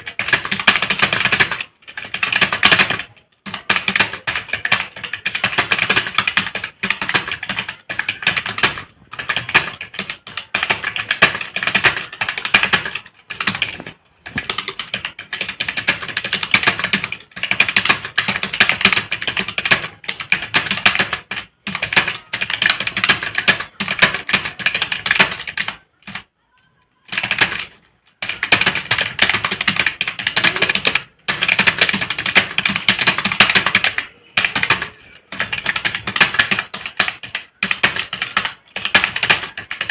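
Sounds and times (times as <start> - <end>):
fast typing on computer keyboard: 0.0 - 26.3, 27.0 - 39.9.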